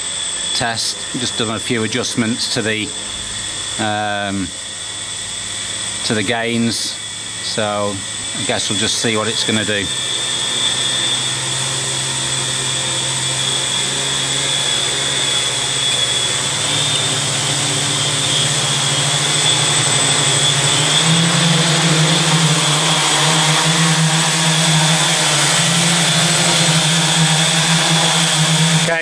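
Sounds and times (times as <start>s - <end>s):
drone motors humming and whining: 0.0s - 29.0s.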